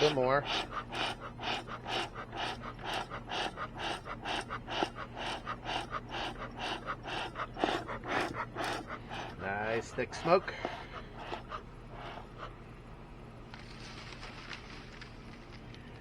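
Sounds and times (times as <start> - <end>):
bee smoker bellows puffing: 0.0 - 13.6
steady low hum: 0.0 - 16.0.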